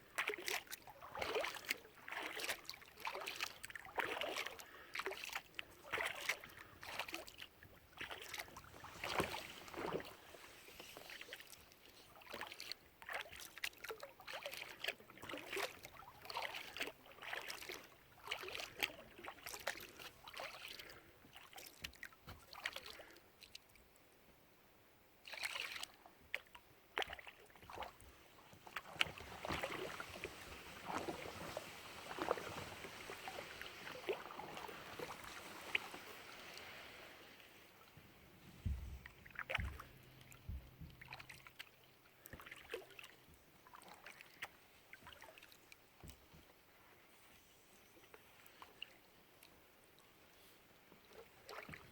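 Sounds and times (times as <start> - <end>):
paddle splashing in water: 0.0 - 23.5, 25.2 - 46.3, 51.0 - 51.9.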